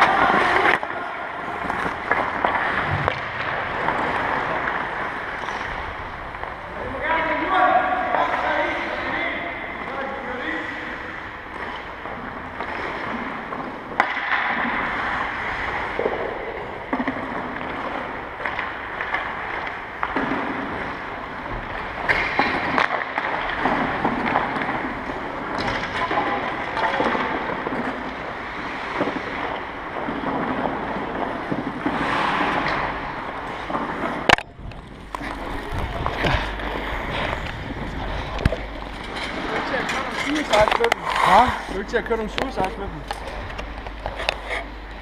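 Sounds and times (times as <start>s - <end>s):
ice skates scraping: 0.0s - 44.8s.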